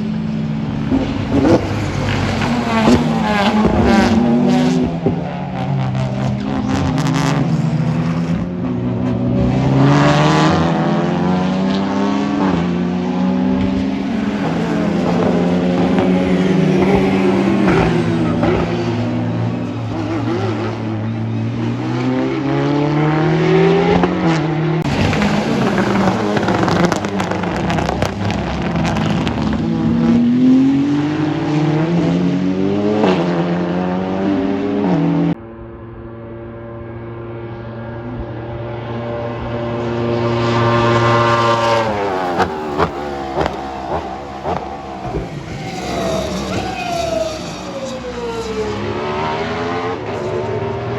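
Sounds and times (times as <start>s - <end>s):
race car engines passing: 0.0s - 50.9s.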